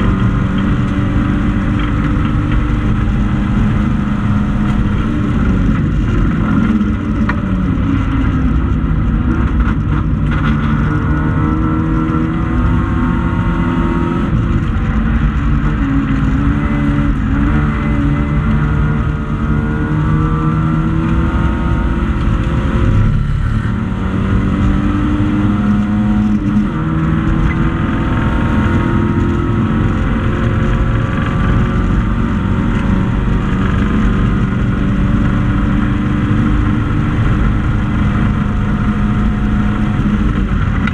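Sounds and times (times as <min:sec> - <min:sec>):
racing car engine accelerating: 0:00.0 - 0:40.9
road and wind noise: 0:00.0 - 0:40.9.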